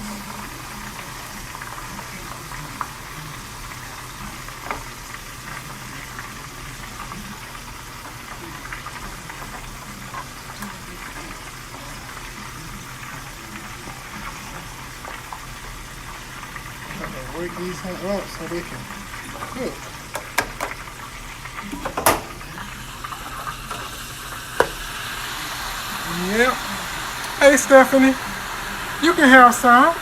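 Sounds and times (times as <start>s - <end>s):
deep frying sizzle: 0.0s - 30.0s
oil popping: 0.0s - 30.0s.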